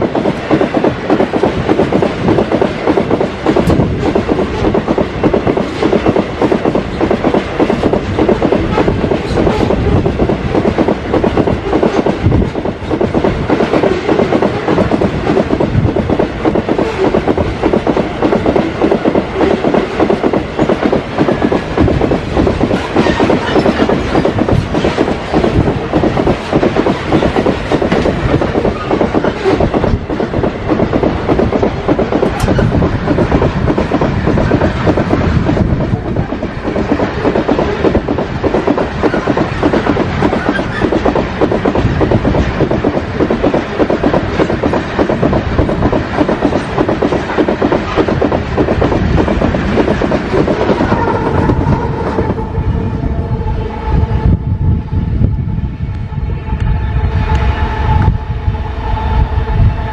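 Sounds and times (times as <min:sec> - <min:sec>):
freight train wheels clattering: 0:00.0 - 0:54.3.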